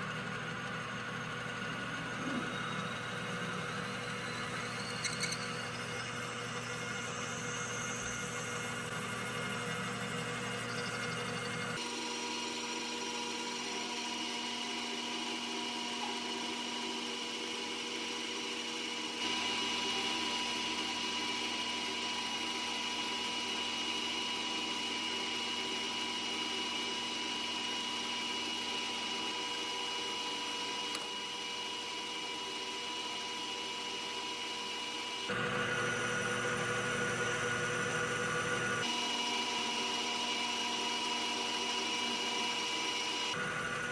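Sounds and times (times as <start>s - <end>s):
metal lathe whining: 0.0s - 43.9s.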